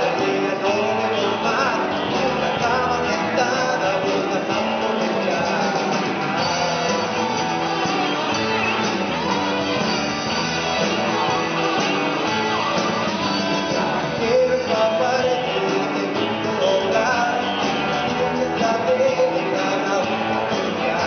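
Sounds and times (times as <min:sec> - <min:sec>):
drum kit: 0:00.0 - 0:21.0
electric guitars: 0:00.0 - 0:21.0
melodic line sung or played: 0:00.0 - 0:21.0.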